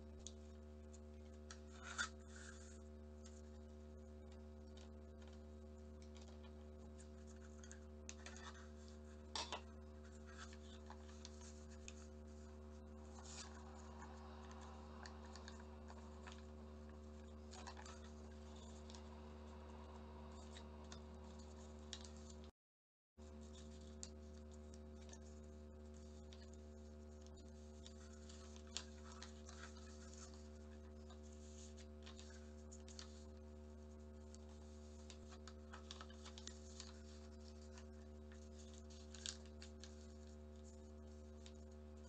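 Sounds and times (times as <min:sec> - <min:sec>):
low electrical hum: 0:00.0 - 0:22.5, 0:23.2 - 0:42.0
paper rustling and folding: 0:00.2 - 0:22.5, 0:23.3 - 0:42.0.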